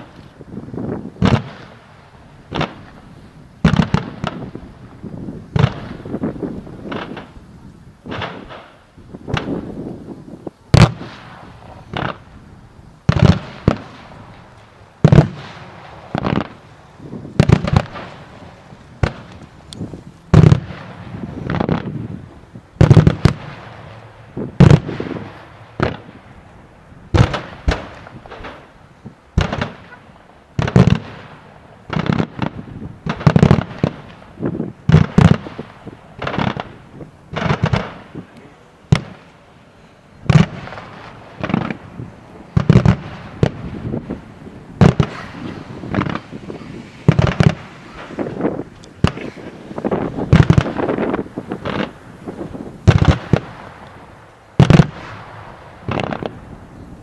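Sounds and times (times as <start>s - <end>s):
fireworks bangs with echo: 0.0s - 7.4s, 8.0s - 9.9s, 10.7s - 12.4s, 13.0s - 26.4s, 27.0s - 56.8s.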